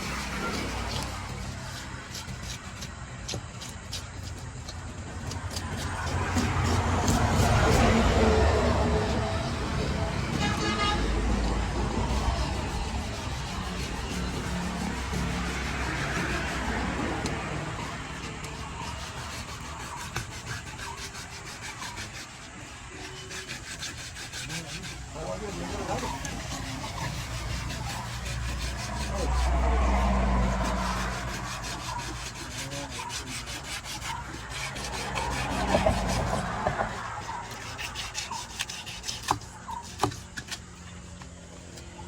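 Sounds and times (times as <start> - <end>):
vehicle passing: 0.0 - 2.1, 5.4 - 39.0
knife scraping fish scales: 0.0 - 41.0.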